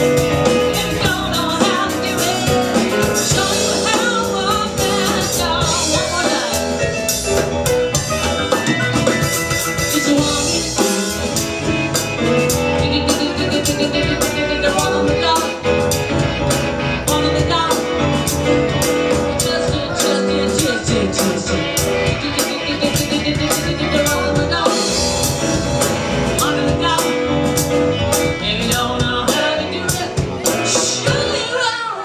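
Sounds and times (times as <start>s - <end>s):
person singing: 0.0s - 7.5s, 8.6s - 11.5s, 12.2s - 16.1s, 17.0s - 32.0s
drum kit beat: 0.0s - 31.7s
live rock band playing: 0.0s - 32.0s.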